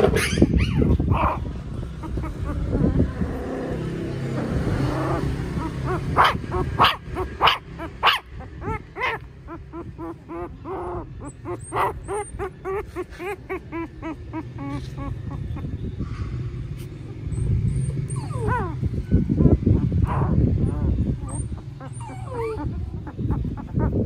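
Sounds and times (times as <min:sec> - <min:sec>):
puppies yelping and whimpering: 0:00.0 - 0:15.8, 0:16.7 - 0:24.0.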